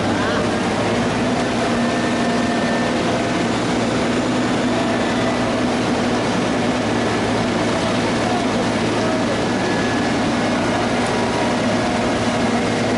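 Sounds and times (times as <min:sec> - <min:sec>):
diesel machinery engine drone: 0:00.0 - 0:12.9.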